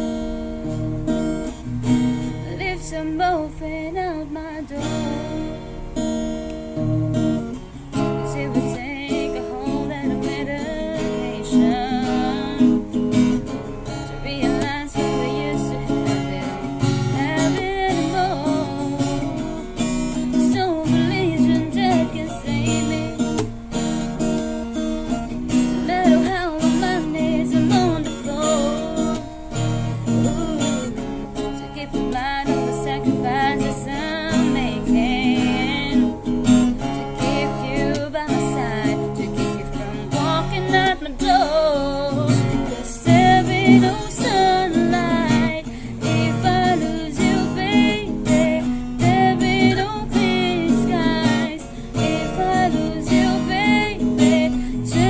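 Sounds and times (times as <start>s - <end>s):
person singing slow song: 0.0s - 23.7s, 24.9s - 55.0s
acoustic guitar strumming: 0.0s - 55.0s.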